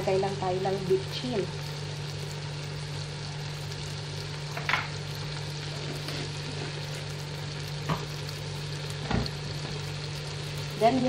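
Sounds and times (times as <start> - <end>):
fish sizzling in a pot: 0.0 - 11.0.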